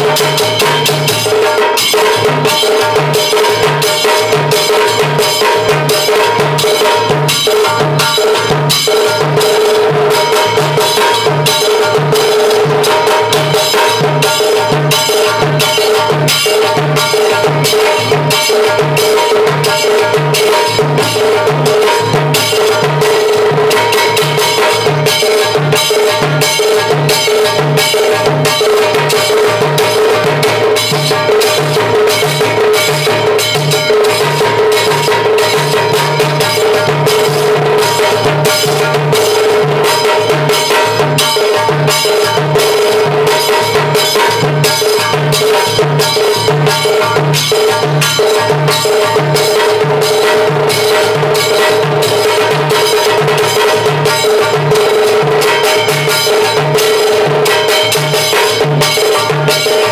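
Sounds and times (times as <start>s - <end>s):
drums playing fast groove: 0.0s - 59.9s
hand drum: 0.0s - 59.9s.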